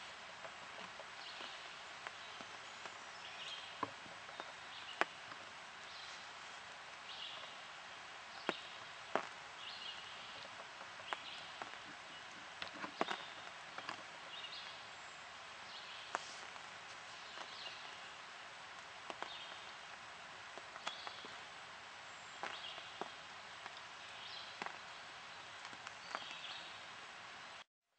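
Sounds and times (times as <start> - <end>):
birds calling: 0.0 - 27.6
steady hiss: 0.0 - 27.7.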